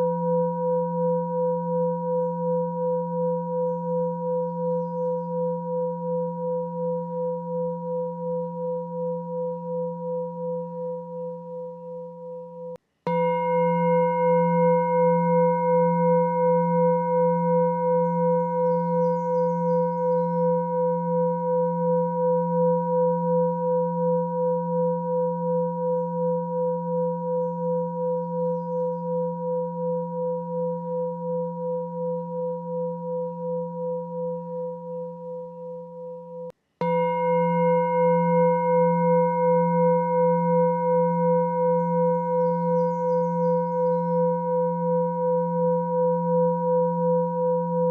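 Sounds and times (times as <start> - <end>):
singing bowl ringing: 0.0 - 47.9.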